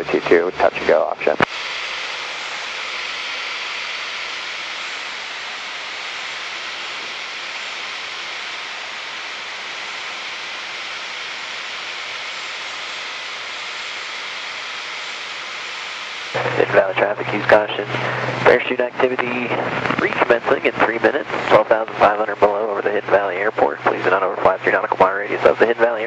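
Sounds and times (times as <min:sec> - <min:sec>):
aircraft cabin engine and airflow: 0:00.0 - 0:26.0.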